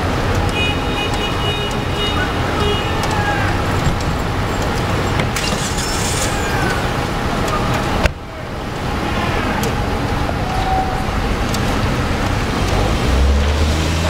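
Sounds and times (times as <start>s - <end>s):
distant voices: 0.0s - 14.0s.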